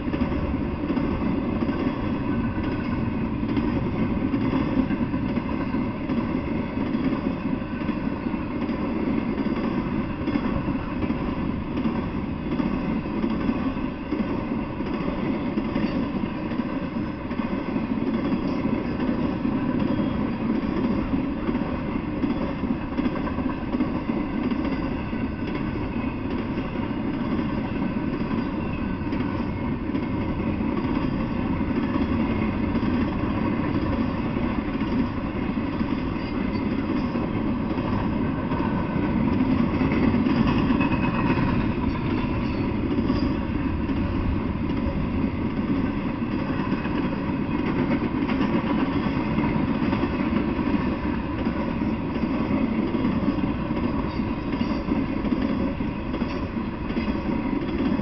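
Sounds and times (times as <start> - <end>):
steel wheels rolling on rails: 0.0 - 58.0.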